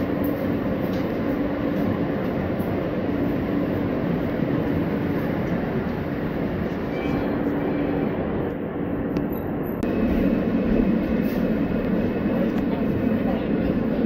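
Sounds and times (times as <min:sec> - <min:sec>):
subway wheels rumbling on rails: 0:00.0 - 0:14.0.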